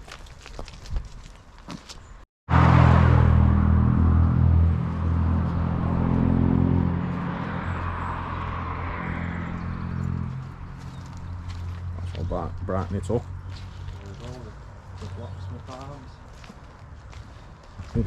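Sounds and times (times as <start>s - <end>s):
vehicle engine humming: 2.5s - 18.0s.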